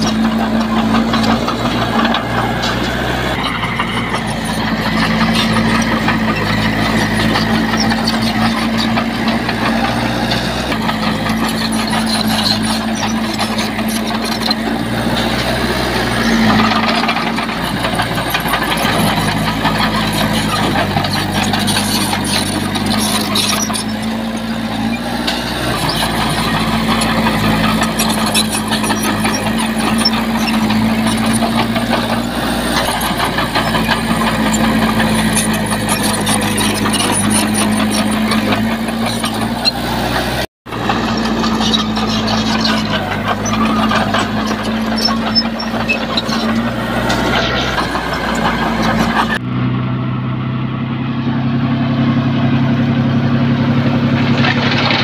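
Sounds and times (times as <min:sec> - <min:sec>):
metallic clanks and rattles: 0:00.0 - 0:49.4
heavy machinery diesel engine: 0:00.0 - 0:55.0.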